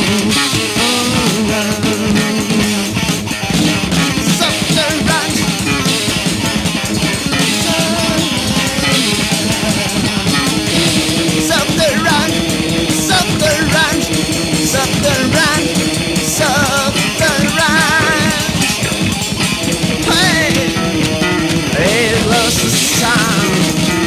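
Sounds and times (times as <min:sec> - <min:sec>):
bending lead guitar line: 0:00.0 - 0:24.0
rock band playing: 0:00.0 - 0:24.0.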